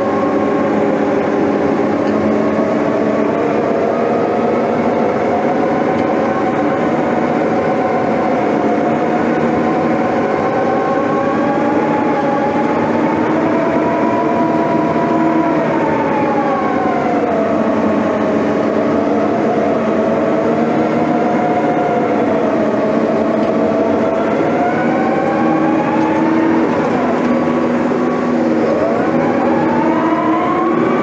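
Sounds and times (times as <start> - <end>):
diesel engine whining: 0.0 - 31.0.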